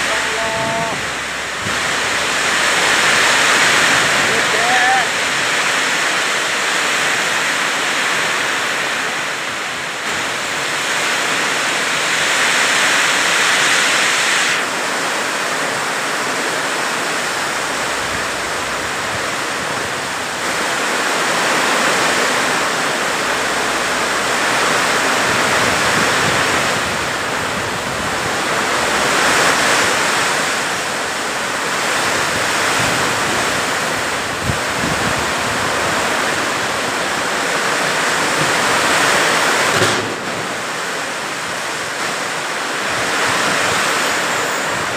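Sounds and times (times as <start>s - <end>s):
heavy rain pouring: 0.0s - 44.9s
strong wind gusts: 0.0s - 44.9s.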